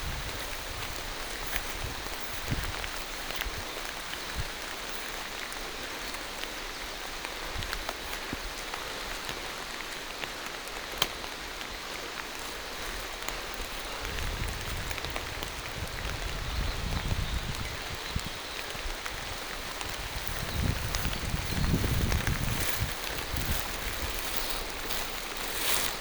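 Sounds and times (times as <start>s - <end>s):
rain on foliage: 0.0s - 26.0s.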